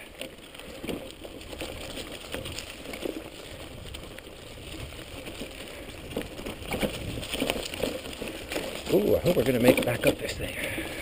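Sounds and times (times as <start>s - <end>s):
bike knocks and rattles: 0.0s - 11.0s
bike tyres rolling on dirt: 0.0s - 11.0s
wind rumble on microphone: 1.3s - 11.0s.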